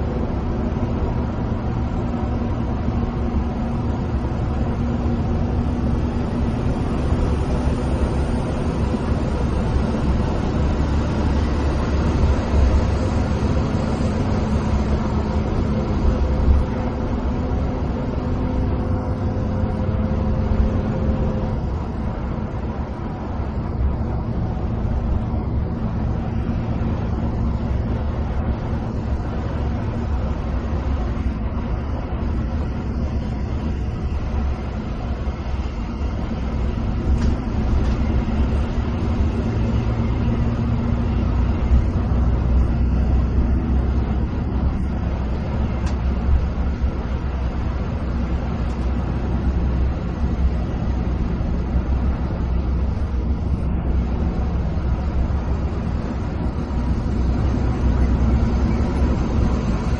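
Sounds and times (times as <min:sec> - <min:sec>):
coach bus engine and tyre roar: 0:00.0 - 0:59.9.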